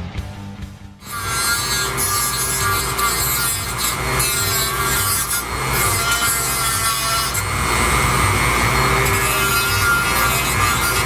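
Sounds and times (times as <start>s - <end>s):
rotary tool grinding fiberglass: 1.0s - 11.0s.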